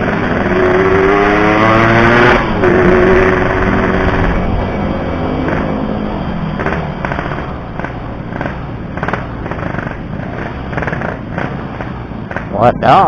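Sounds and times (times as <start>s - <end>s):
motorcycle engine slowing down: 0.0s - 12.7s
engine popping and crackling: 0.0s - 13.0s.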